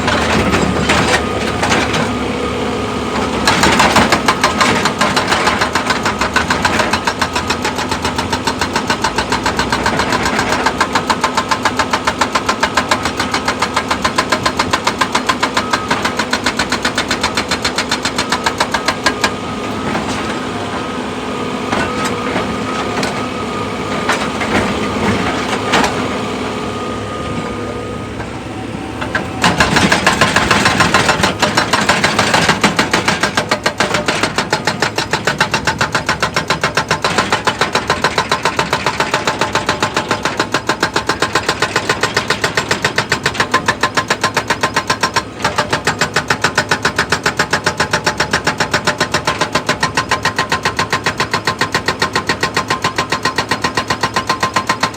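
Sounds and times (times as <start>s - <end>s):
heavy machine diesel engine: 0.0s - 54.9s.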